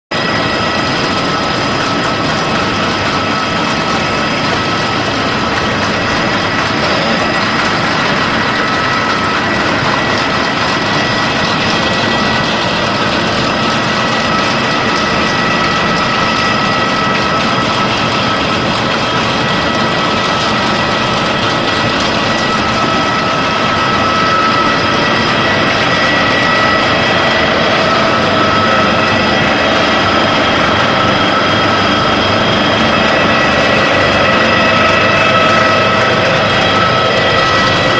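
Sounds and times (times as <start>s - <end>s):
high-pitched machine whines: 0.1s - 37.9s
pellet press machine running: 0.1s - 37.9s.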